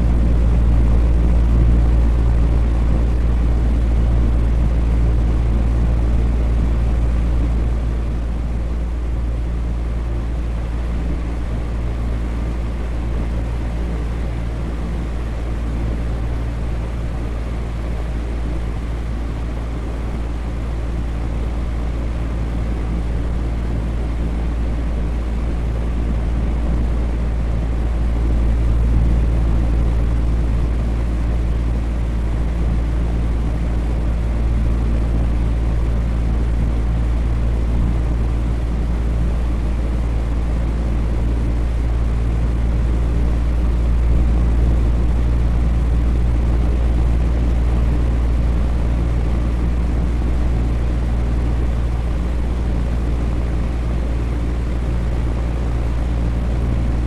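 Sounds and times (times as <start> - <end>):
electric fan running: 0.0 - 57.0.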